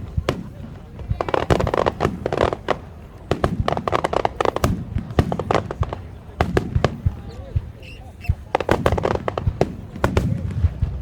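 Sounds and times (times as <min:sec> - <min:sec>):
deep firework booms: 0:00.0 - 0:11.0.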